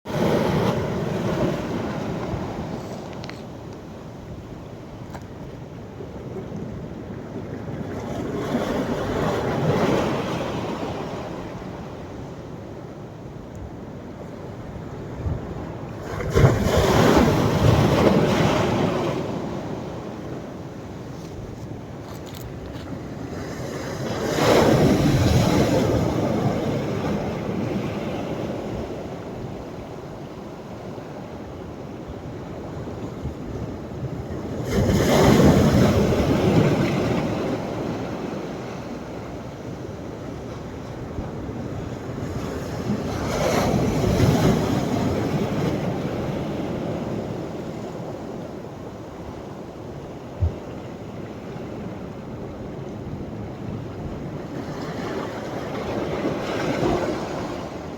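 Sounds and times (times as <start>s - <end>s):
sea waves breaking on shore: 0.1s - 13.2s, 13.9s - 57.9s.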